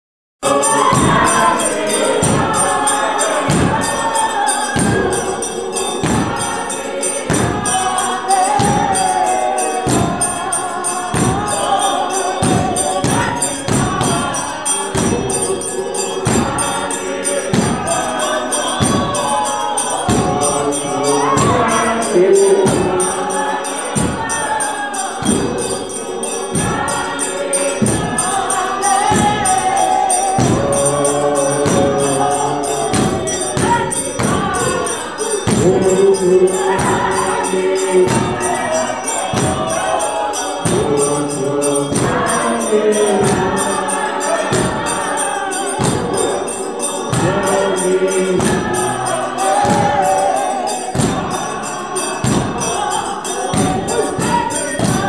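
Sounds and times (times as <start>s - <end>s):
choir singing gospel: 0.4s - 55.0s
percussive beat: 0.4s - 55.0s.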